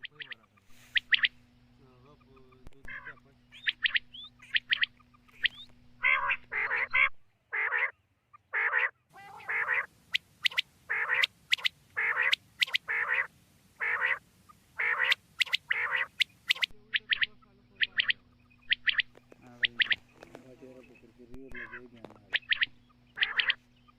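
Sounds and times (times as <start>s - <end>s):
quail calling: 0.0s - 23.9s.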